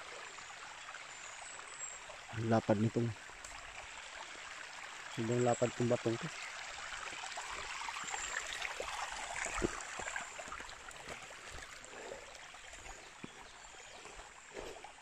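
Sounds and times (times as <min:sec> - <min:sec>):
creek water trickling over rock: 0:00.0 - 0:15.0.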